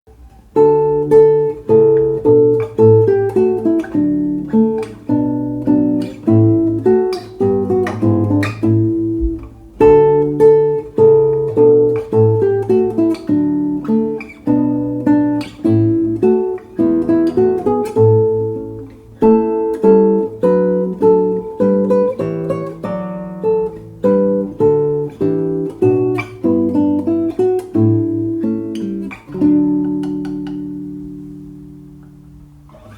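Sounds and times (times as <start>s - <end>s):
solo acoustic guitar: 0.1s - 32.9s.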